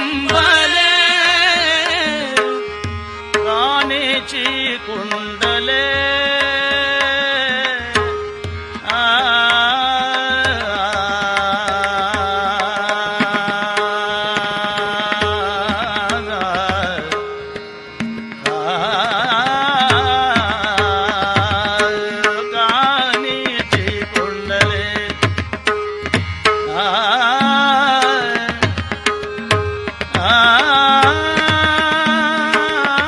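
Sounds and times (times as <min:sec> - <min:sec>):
tabla beating: 0:00.0 - 0:33.0.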